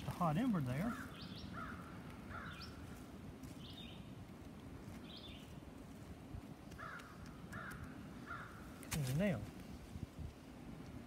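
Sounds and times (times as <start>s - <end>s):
wild birds calling: 0.0s - 5.8s, 6.5s - 9.8s.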